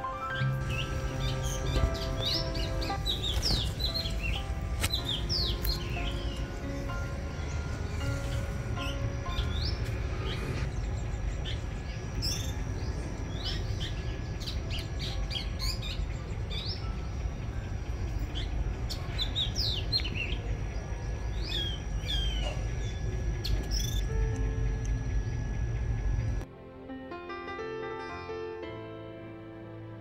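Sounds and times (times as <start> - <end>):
birds chirping: 0.0 - 26.4
low background rumble: 0.4 - 26.5.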